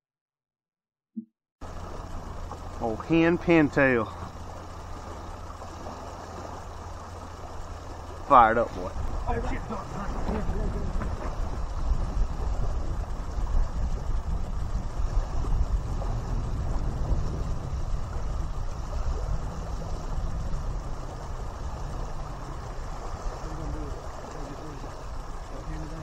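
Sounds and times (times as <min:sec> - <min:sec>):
waves lapping on gravel shore: 0:01.6 - 0:26.0
wind buffeting microphone: 0:01.7 - 0:26.0.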